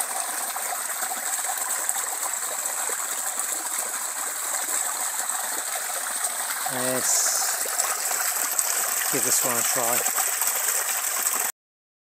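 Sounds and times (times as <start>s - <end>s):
stream flowing over weir: 0.0s - 11.5s.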